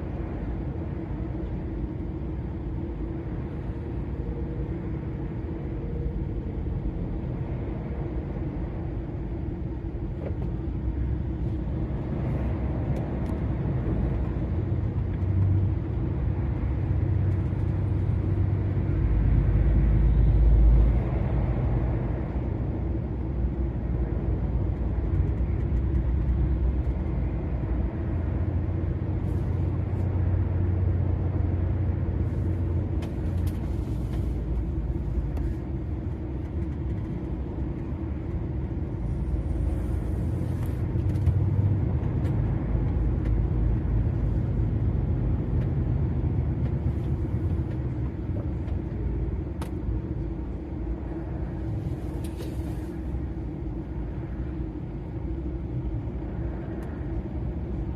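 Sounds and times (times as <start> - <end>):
lorry diesel engine and road rumble: 0.0 - 57.9.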